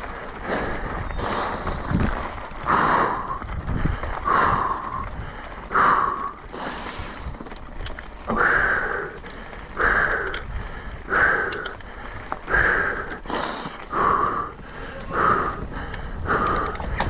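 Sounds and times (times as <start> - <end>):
person breathing heavily: 0.4 - 7.6, 8.2 - 17.0.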